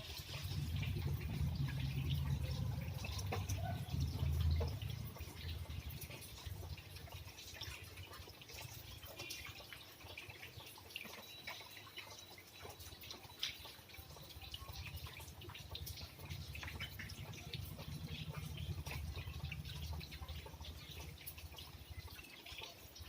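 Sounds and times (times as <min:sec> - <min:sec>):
rain drops tapping: 0:00.0 - 0:23.0.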